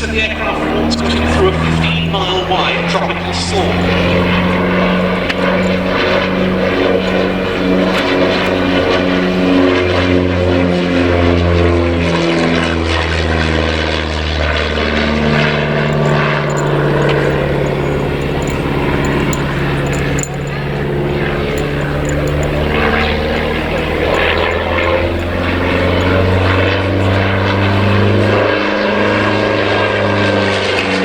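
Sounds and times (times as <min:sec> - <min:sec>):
propeller plane flying past: 0:00.0 - 0:31.0.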